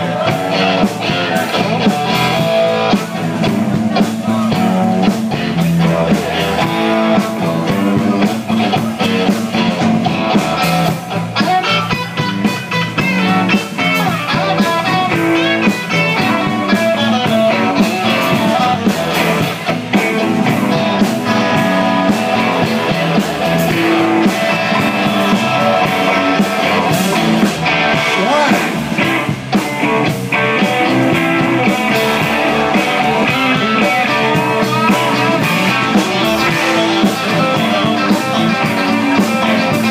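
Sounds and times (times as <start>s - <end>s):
blues band playing: 0.0s - 39.9s
electric guitar: 0.0s - 39.9s.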